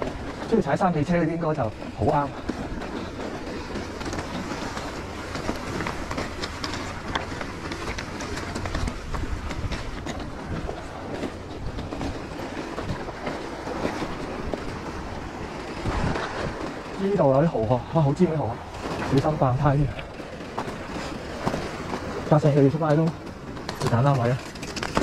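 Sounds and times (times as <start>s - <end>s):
bike rattling and clattering: 0.0s - 25.0s
tyres crunching over stones: 0.0s - 25.0s.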